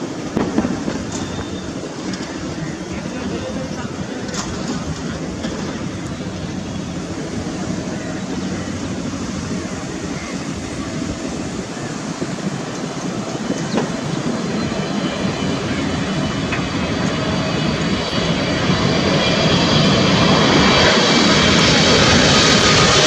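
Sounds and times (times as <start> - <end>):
high fan whine: 0.0 - 23.0
jet airliner engine noise: 0.0 - 23.0.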